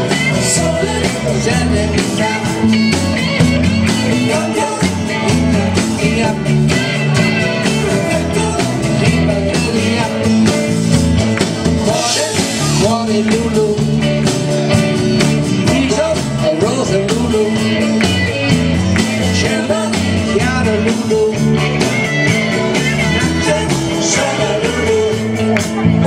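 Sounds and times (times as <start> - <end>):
bass guitar: 0.0 - 26.0
drum kit beat: 0.0 - 26.0
person singing: 0.0 - 26.0.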